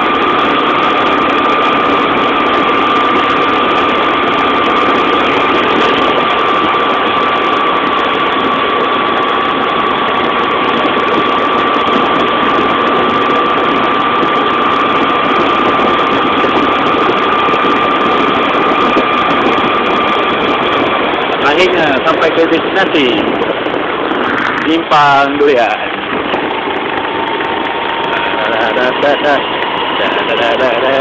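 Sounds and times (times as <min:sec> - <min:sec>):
road and wind noise: 0:00.0 - 0:31.0
vehicle engine whine: 0:00.0 - 0:31.0.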